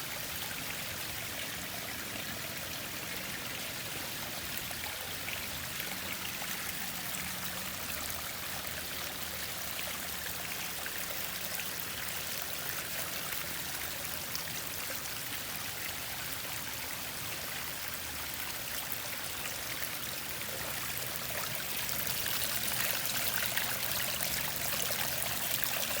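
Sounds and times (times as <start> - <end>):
waterfall splashing and trickling: 0.0 - 26.0.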